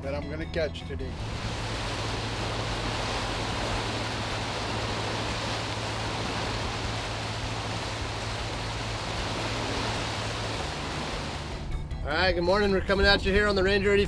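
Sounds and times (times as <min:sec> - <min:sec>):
churning wake water: 0:01.0 - 0:14.0
low boat engine drone: 0:01.0 - 0:14.0.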